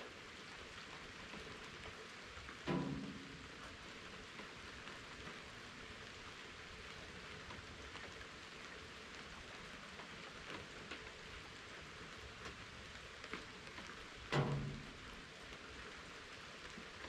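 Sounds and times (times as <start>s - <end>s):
raindrops ticking: 0.0s - 17.0s
steady rain falling: 0.0s - 17.0s.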